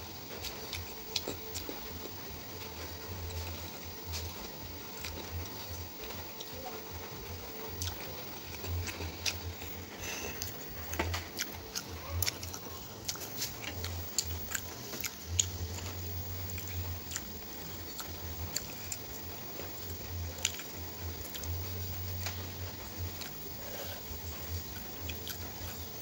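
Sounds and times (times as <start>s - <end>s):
person chewing and biting food: 0.3s - 6.5s, 7.7s - 26.0s.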